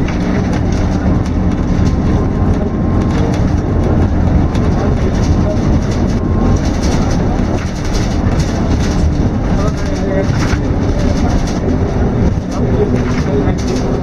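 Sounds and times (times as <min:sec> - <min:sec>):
bus body rattles and clicks: 0:00.0 - 0:14.0
bus engine drone: 0:00.0 - 0:14.0
road noise: 0:00.0 - 0:14.0.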